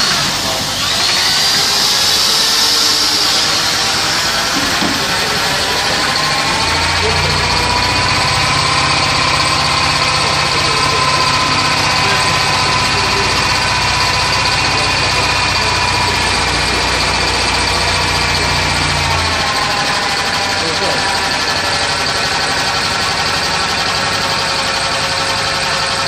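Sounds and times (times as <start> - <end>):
model engine running: 0.0 - 26.0.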